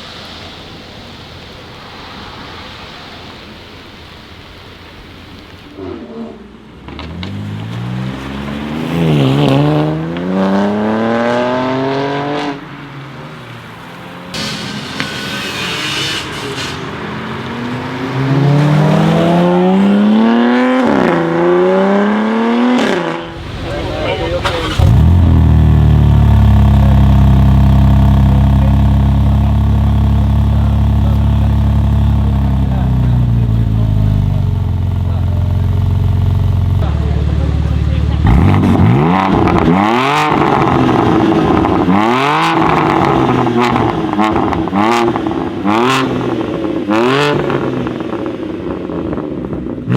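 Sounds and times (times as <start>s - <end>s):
car engine accelerating hard: 5.2s - 49.9s.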